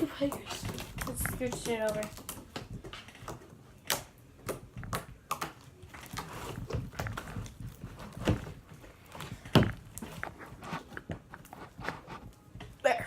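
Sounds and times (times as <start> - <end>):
knocks clicks and rustles: 0.0 - 12.8.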